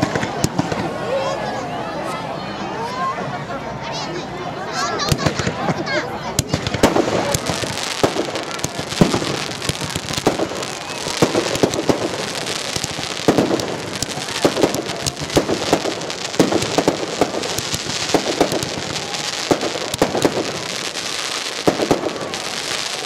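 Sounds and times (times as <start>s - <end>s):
fireworks bangs: 0.0s - 1.0s, 5.0s - 23.0s
crackling hiss of fireworks: 0.0s - 1.4s, 4.9s - 23.0s.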